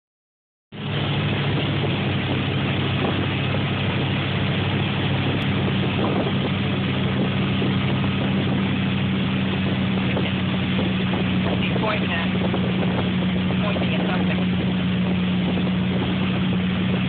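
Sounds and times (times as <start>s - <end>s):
boat engine droning: 0.7s - 17.0s
rush of churned water: 0.7s - 17.0s.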